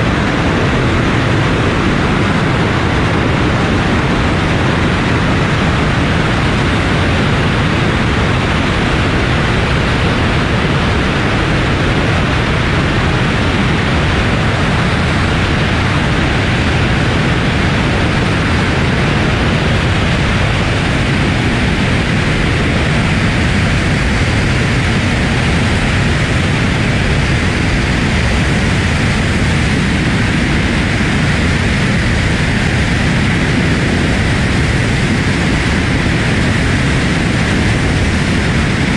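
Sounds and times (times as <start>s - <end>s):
jet engines at takeoff power: 0.0s - 38.9s.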